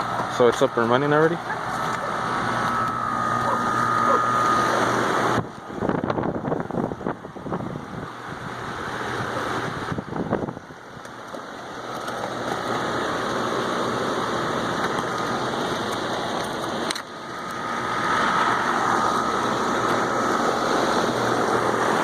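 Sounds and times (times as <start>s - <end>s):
air conditioner fan rushing air: 0.0s - 22.0s
faint steady whine: 0.0s - 22.0s.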